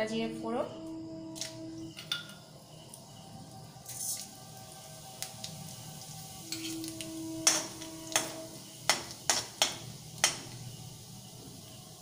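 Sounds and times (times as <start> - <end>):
seeds sizzling in hot oil: 0.0 - 12.0.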